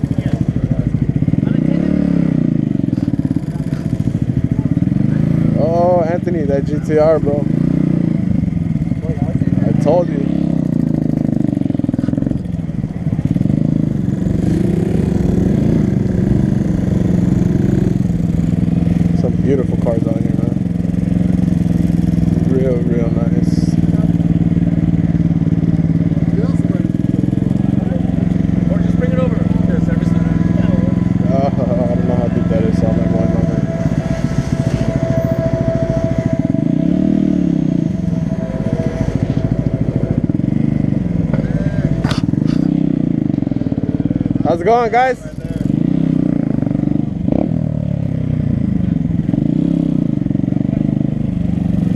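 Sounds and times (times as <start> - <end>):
small motorcycle engine running: 0.0 - 51.9.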